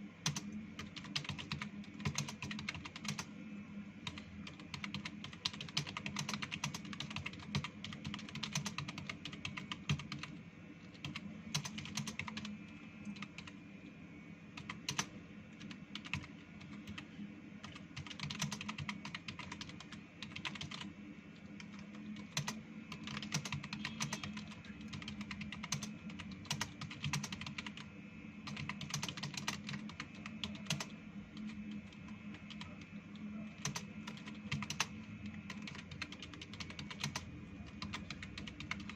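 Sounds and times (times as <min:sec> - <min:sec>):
steady low hum: 0:00.0 - 0:38.9
typing on computer keyboard: 0:00.2 - 0:03.3, 0:04.0 - 0:10.3, 0:10.9 - 0:13.5, 0:14.6 - 0:17.0, 0:17.6 - 0:20.9, 0:21.6 - 0:38.9.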